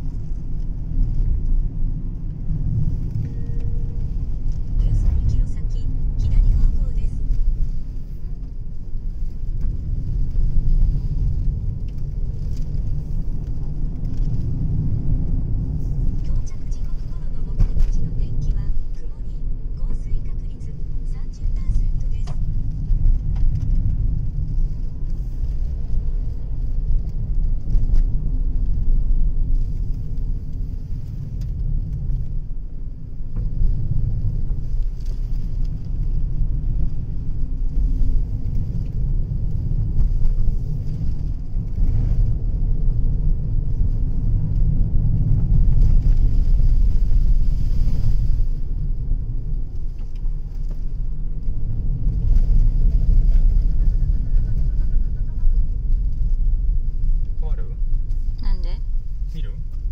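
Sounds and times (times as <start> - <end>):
car engine rumble: 0.0 - 59.9
tyres on road: 0.0 - 59.9.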